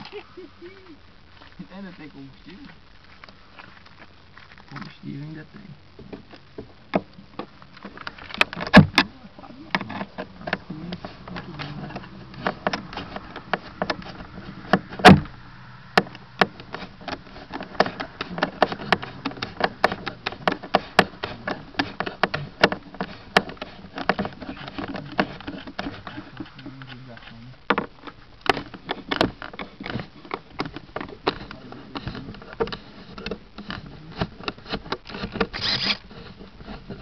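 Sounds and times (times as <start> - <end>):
handling knocks and clicks: 6.0 - 37.0.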